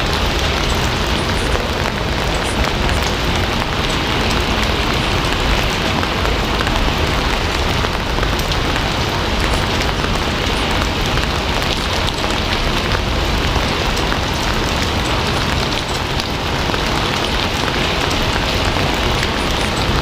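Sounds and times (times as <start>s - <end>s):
heavy rain falling on a surface: 0.0s - 20.0s.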